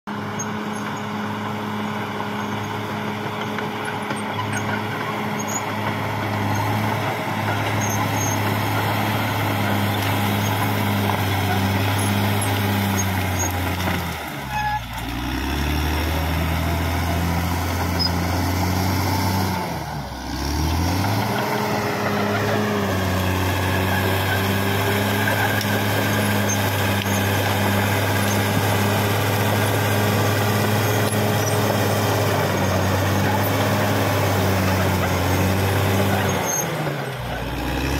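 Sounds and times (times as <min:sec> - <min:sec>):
bulldozer diesel engine running: 0:00.1 - 0:37.9.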